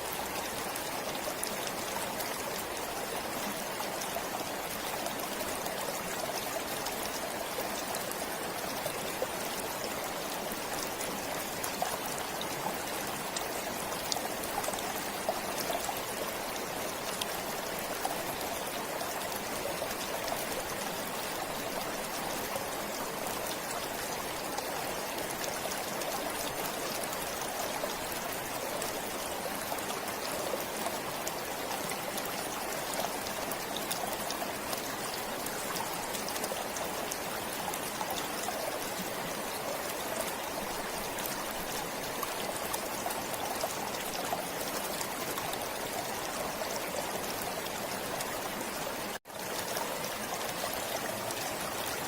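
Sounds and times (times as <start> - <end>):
stream flowing: 0.0 - 52.0
water trickling and splashing: 0.0 - 52.0.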